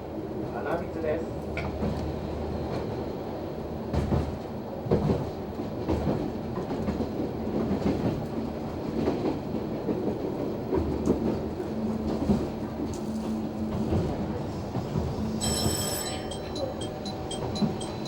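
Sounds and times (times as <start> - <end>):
diesel railcar rumble: 0.0 - 18.0.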